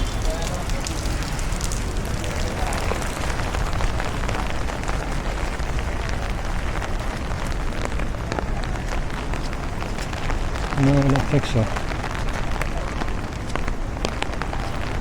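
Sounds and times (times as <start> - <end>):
steady rain falling: 0.0 - 15.0
wind buffeting microphone: 0.0 - 15.0.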